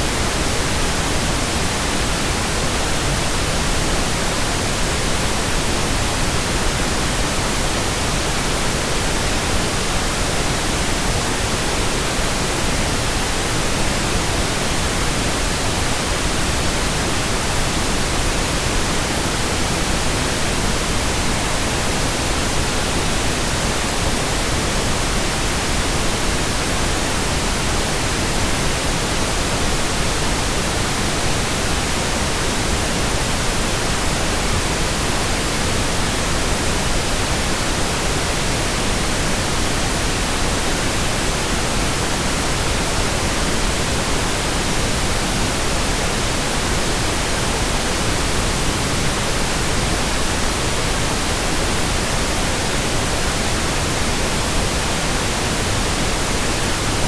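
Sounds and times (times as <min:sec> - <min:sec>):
steady white noise: 0:00.0 - 0:57.0.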